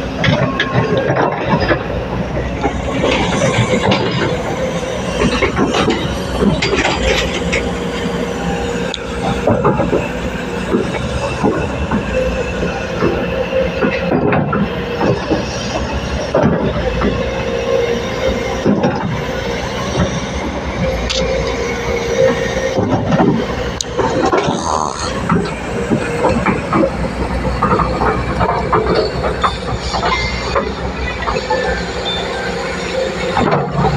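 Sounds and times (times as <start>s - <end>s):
excavator engine drone: 0.0s - 33.9s.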